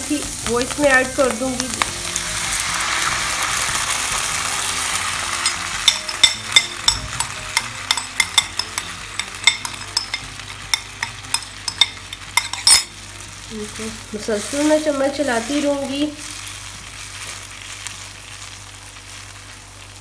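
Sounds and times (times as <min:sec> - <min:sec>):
sauce sizzling in a frying pan: 0:00.0 - 0:20.0.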